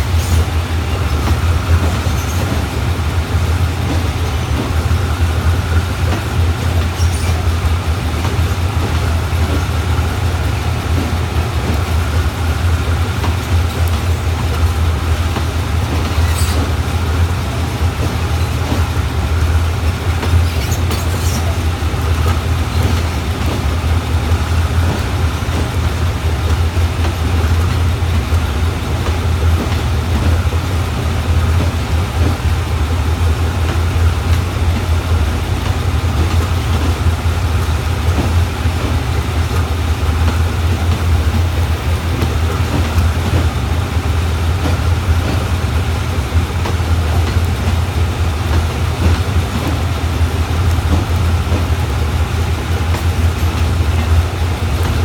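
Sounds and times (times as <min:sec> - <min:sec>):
train coaches rolling rumble: 0:00.0 - 0:55.0.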